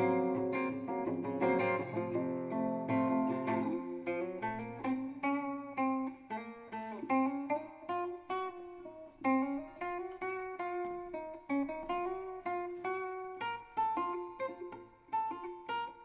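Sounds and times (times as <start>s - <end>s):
guitar plucking single notes: 0.0s - 16.0s.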